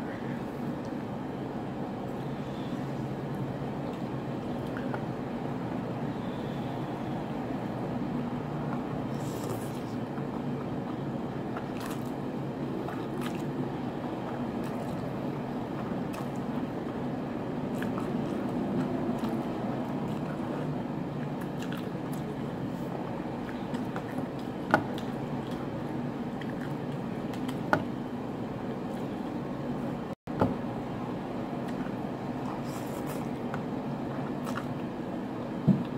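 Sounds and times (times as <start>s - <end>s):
steady background noise: 0.0s - 35.9s.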